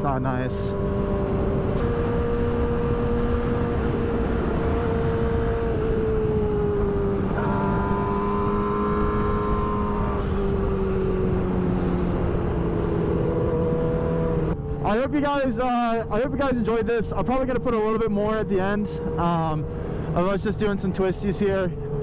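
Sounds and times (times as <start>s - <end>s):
motorcycle engine cruising: 0.0s - 22.0s
wind rumble: 0.0s - 22.0s.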